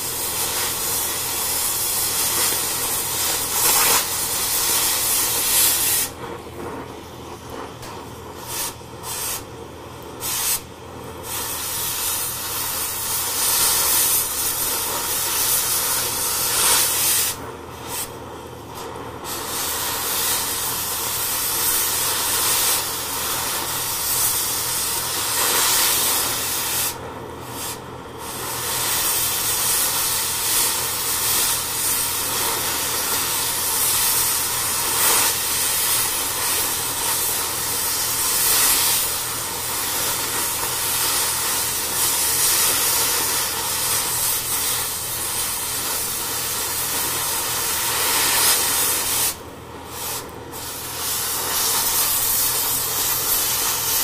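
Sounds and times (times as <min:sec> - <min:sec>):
cutting torch hissing: 0:00.0 - 0:54.0.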